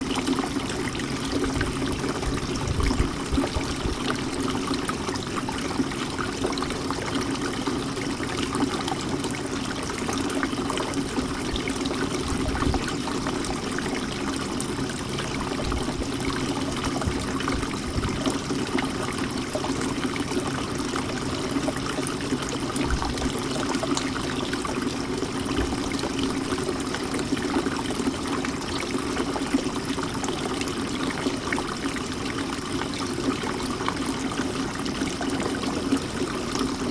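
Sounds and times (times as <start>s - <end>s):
fountain water trickling and splashing: 0.0s - 36.9s.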